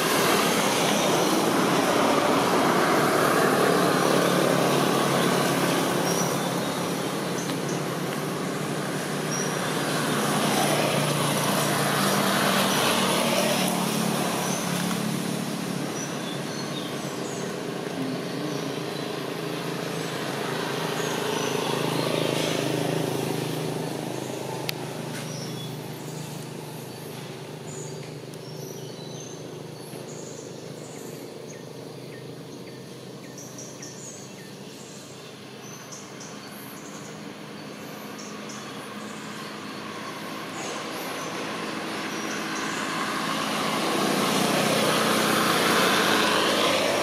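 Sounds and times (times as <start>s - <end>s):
small birds chirping: 0.0s - 47.0s
vehicles passing: 0.0s - 47.0s.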